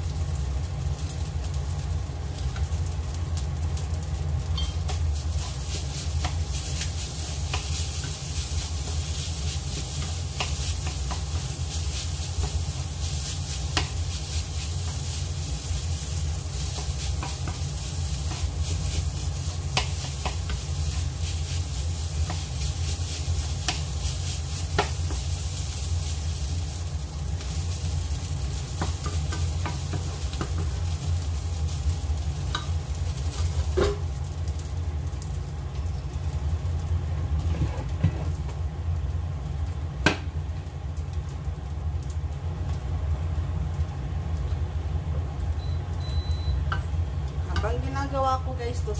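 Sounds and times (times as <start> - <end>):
rice sizzling in frying pan: 0.0 - 48.9
steady low hum: 0.0 - 48.9.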